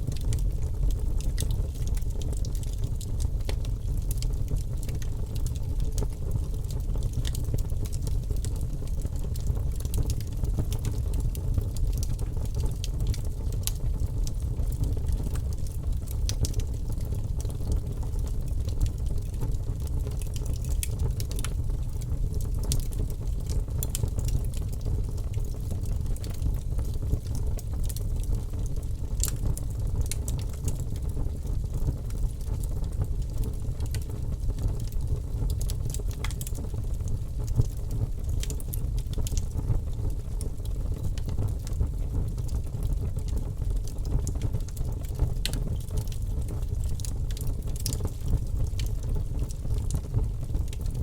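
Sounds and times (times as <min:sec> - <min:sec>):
campfire crackling and popping: 0:00.1 - 0:51.0.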